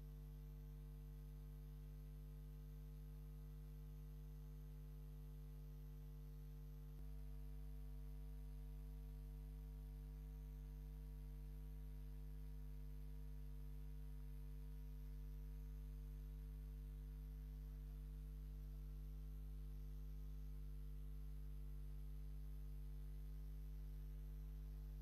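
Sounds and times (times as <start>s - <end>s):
electrical mains hum: 1.3s - 25.0s.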